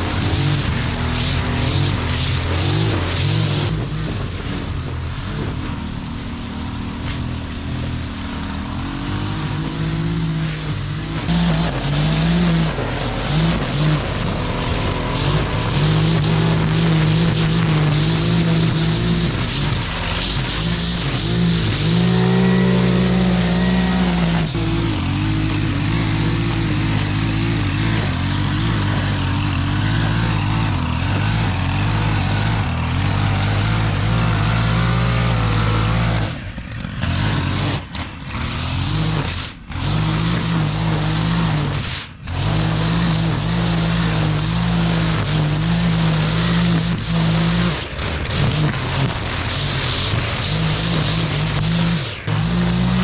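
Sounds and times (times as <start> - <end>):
string trimmer engine: 0.0 - 53.0
trimmer line cutting grass: 0.0 - 53.0.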